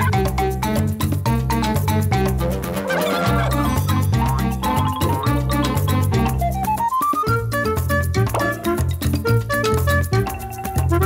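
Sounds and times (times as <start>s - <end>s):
instrumental cartoon theme music: 0.0s - 11.0s.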